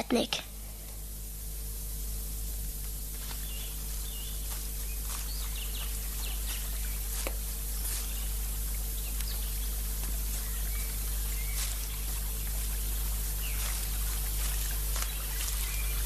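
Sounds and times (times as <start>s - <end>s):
background hiss: 0.0s - 16.0s
low hum: 0.0s - 16.0s
birds chirping: 2.1s - 16.0s.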